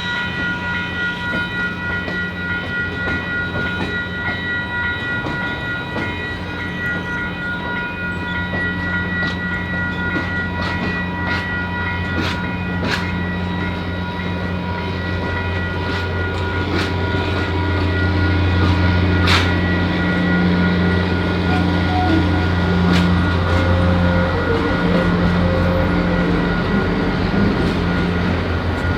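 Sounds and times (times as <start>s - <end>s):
train rumbling on track: 0.0s - 28.9s.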